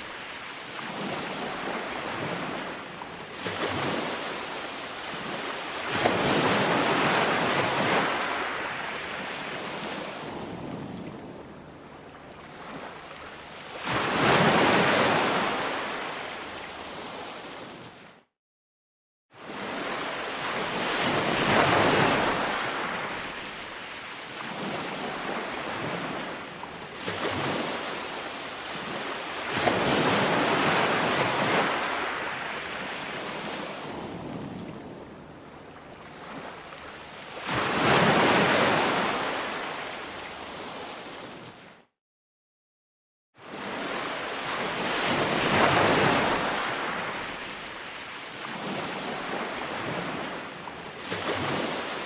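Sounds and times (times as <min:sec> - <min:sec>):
ocean waves breaking on shore: 0:00.0 - 0:18.3, 0:19.4 - 0:42.0, 0:43.4 - 0:52.0.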